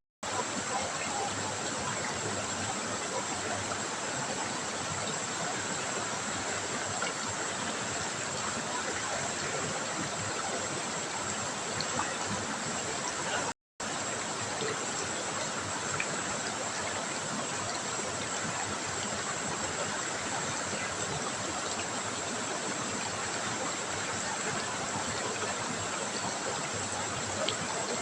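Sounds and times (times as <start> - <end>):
river water rushing over rocks: 0.2 - 28.0.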